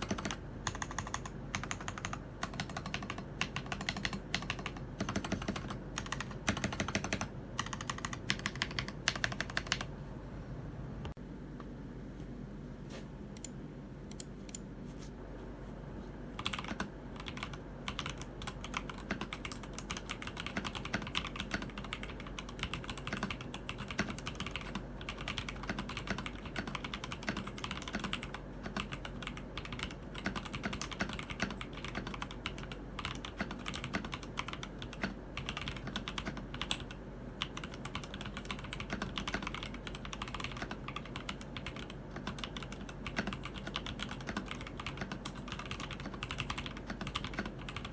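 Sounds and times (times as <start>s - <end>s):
mechanical keyboard typing: 0.0s - 9.9s, 16.4s - 47.9s.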